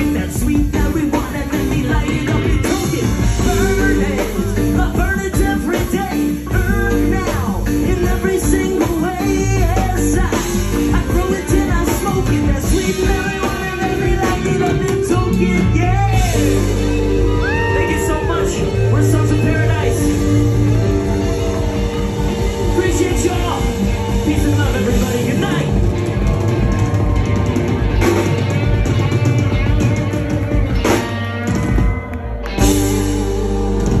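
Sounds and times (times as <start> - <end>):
drum kit: 0.0 - 34.0
electric guitars: 0.0 - 34.0
live rock band playing: 0.0 - 34.0.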